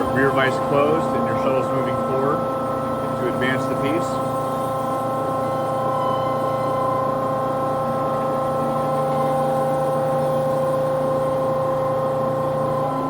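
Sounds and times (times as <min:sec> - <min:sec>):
band saw humming: 0:00.0 - 0:13.0
motor whine: 0:00.0 - 0:13.0.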